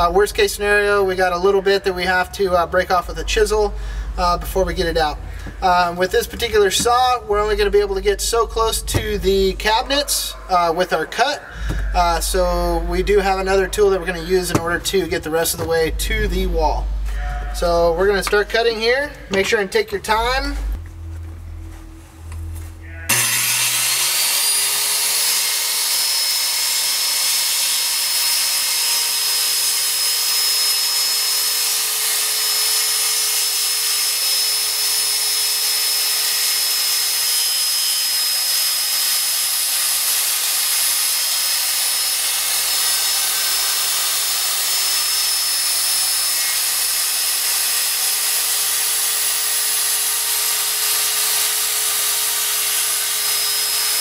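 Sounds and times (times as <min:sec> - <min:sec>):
circular saw cutting wood: 0:02.1 - 0:20.8, 0:23.0 - 0:54.0.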